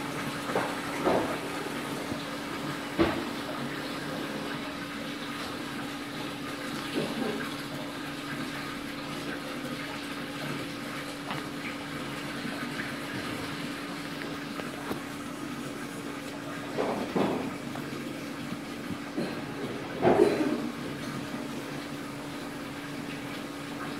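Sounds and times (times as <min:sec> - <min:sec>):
rushing water: 0:00.0 - 0:23.9
water pump humming: 0:00.0 - 0:23.9.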